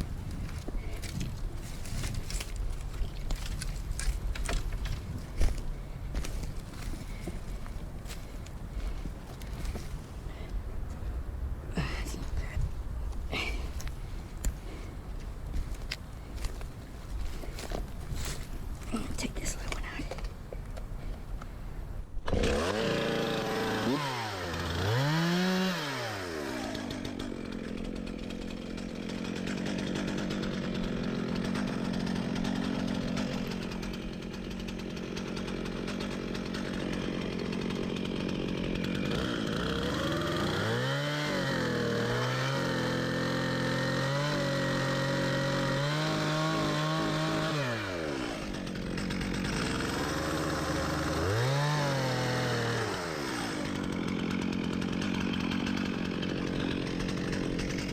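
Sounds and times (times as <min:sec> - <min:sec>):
chainsaw idling and revving: 0:00.0 - 0:57.9.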